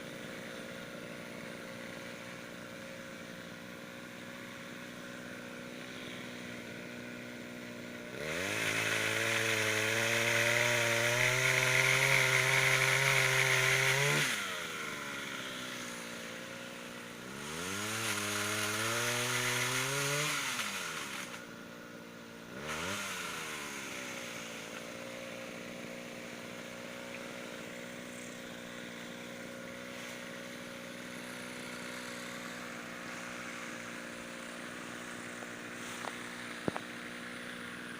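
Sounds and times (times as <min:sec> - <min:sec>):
pole saw engine idling and revving: 0:00.0 - 0:37.9.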